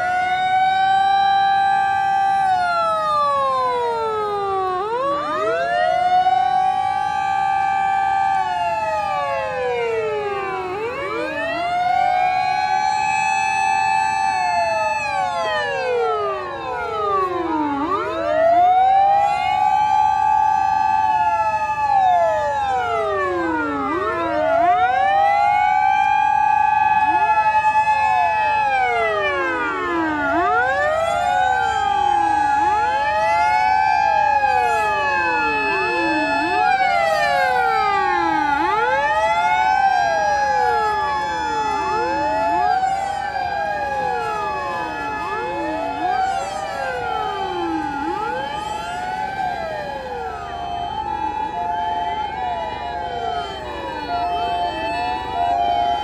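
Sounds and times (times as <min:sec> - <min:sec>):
fire truck sirens wailing: 0:00.0 - 0:56.0.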